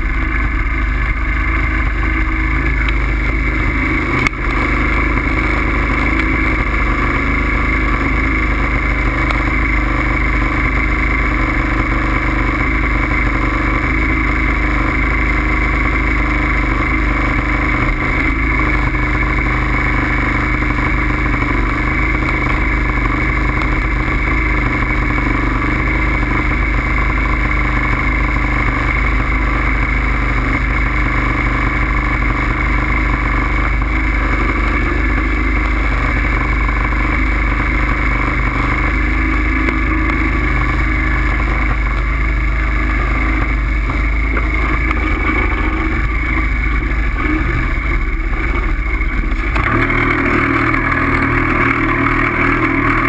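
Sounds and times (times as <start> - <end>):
bike riding rumble and whine: 0.0 - 53.0.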